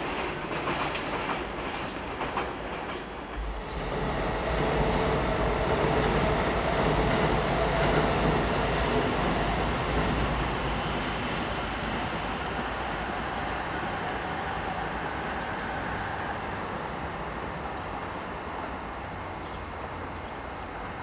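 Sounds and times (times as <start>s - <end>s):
electric train rumbling on tracks: 0.0s - 21.0s.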